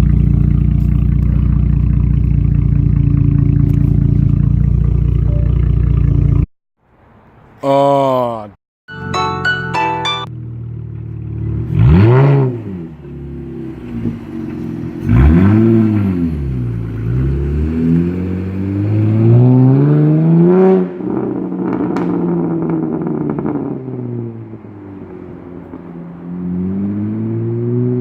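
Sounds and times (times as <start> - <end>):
car engine revving and idling: 0.0 - 6.5, 10.3 - 28.0.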